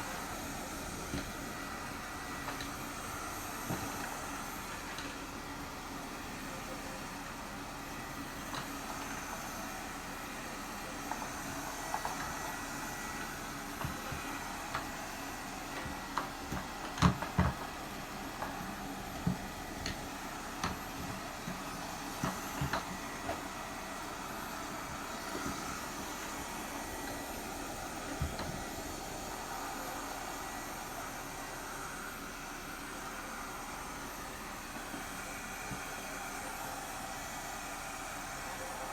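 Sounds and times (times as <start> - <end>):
robot vacuum whirring: 0.1 - 38.9.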